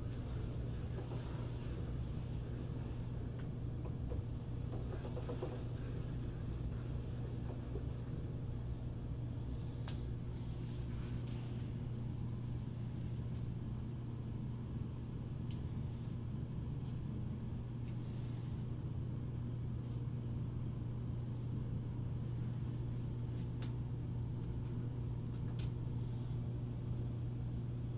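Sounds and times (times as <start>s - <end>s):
low machine hum: 0.0s - 27.9s.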